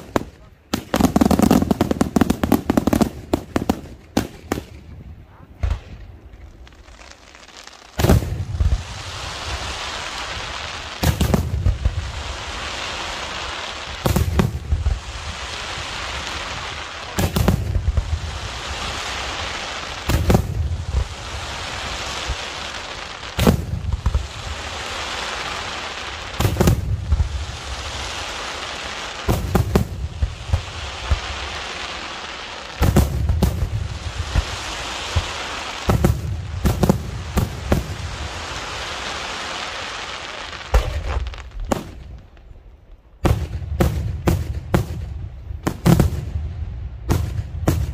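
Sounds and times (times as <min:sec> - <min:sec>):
steady hiss: 0:00.0 - 0:43.8
fireworks bursting with loud bangs: 0:00.0 - 0:47.9.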